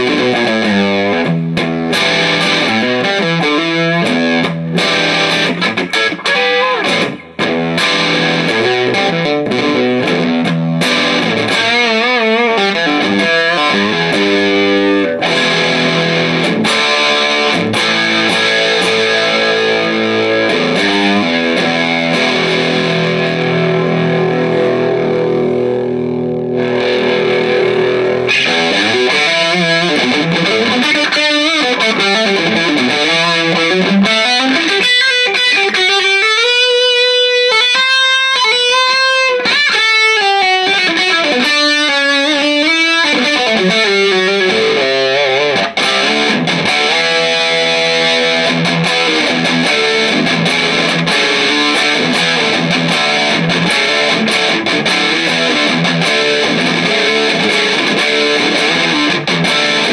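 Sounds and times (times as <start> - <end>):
distorted electric guitar lead: 0.0 - 59.9.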